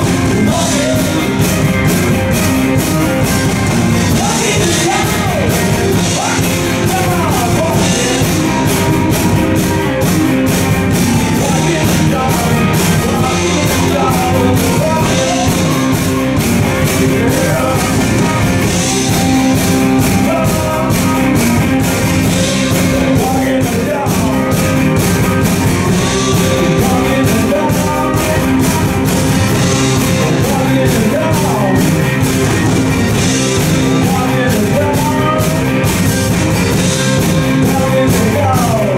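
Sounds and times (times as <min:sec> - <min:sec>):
man singing: 0:00.0 - 0:38.9
rock band playing: 0:00.0 - 0:38.9.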